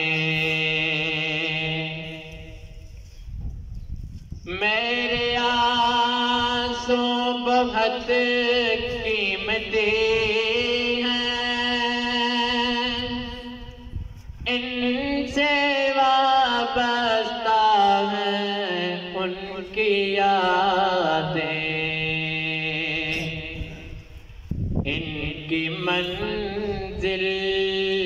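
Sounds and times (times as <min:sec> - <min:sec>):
man singing unaccompanied: 0:00.0 - 0:02.7, 0:04.4 - 0:24.1, 0:24.8 - 0:28.0.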